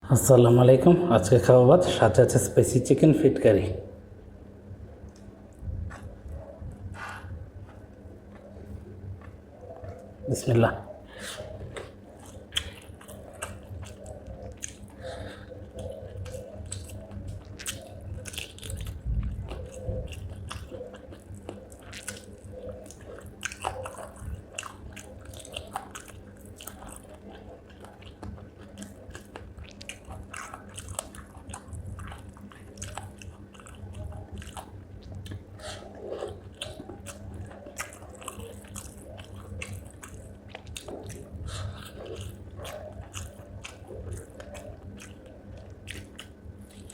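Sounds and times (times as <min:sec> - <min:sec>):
person chewing and crunching: 0:05.1 - 0:46.9.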